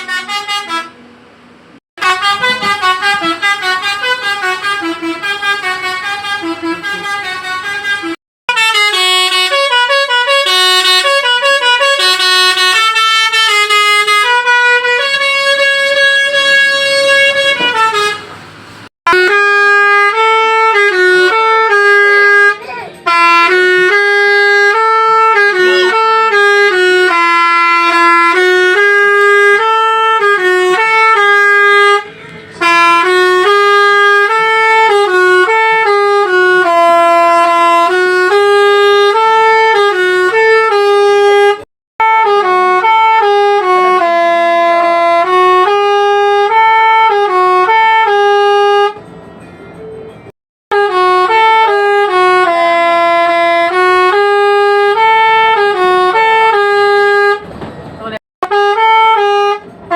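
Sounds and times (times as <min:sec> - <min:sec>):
air horn playing melody: 0:00.0 - 0:01.1, 0:02.0 - 0:18.4, 0:19.1 - 0:49.1, 0:50.7 - 0:57.5, 0:58.4 - 0:59.9.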